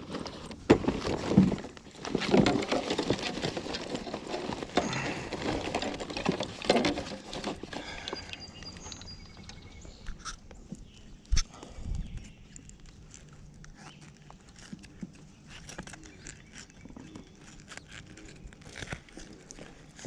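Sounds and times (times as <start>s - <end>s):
rustling: 0.0s - 11.4s, 12.3s - 20.0s.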